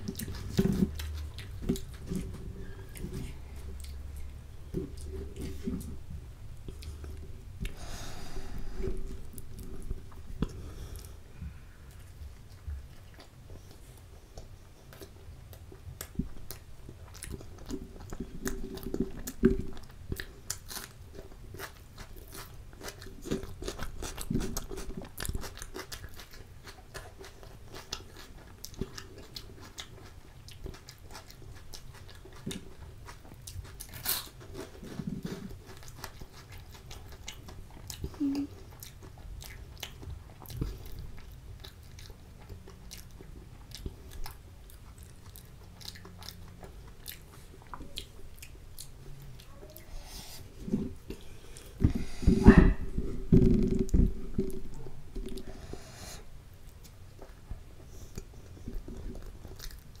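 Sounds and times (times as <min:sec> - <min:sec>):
chewing and wet mouth sounds: 0:00.0 - 1:00.0.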